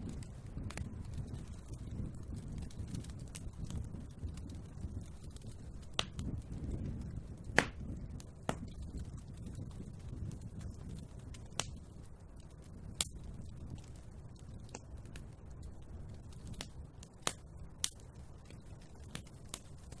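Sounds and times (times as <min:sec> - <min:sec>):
fire pops and crackles: 0:00.0 - 0:20.0
fire rumbling in fireplace: 0:00.0 - 0:20.0.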